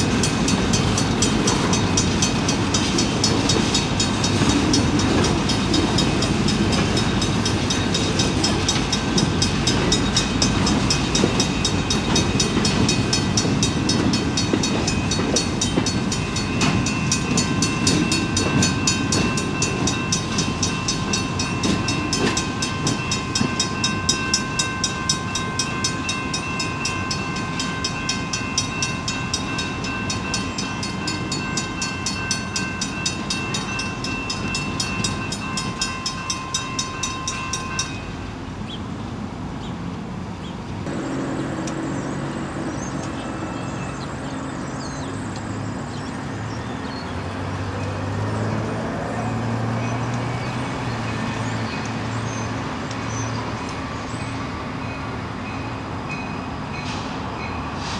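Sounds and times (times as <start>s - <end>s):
diesel locomotive rumble: 0.0s - 57.9s
rolling rail cars: 0.0s - 57.9s.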